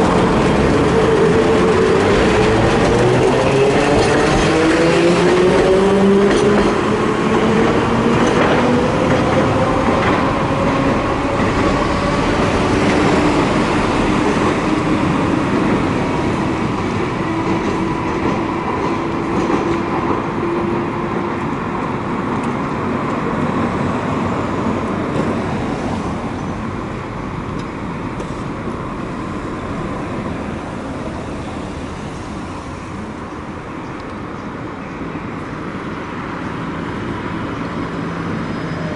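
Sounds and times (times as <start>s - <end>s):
tram running noise: 0.0s - 38.9s
tram traction motor whine: 0.0s - 38.9s.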